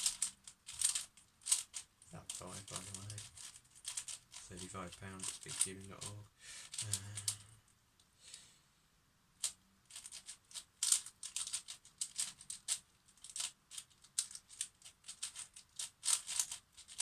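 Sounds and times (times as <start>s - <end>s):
speed cube clicking and swishing: 0.0s - 7.5s, 9.4s - 17.0s.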